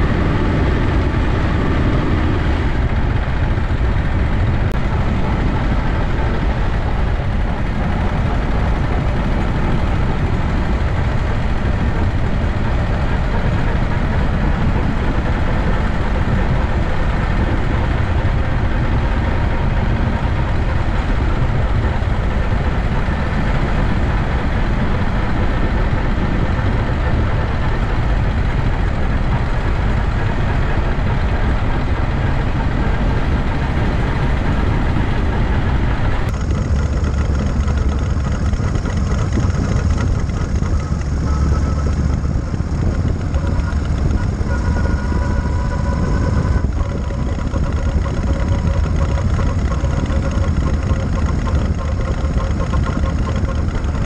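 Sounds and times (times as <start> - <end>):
motorcycle engine running: 0.0 - 54.0
steady tones: 0.0 - 54.0.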